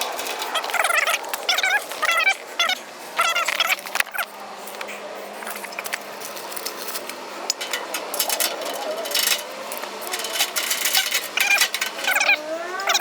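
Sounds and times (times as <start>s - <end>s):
rustling: 0.0s - 2.2s, 3.2s - 13.0s.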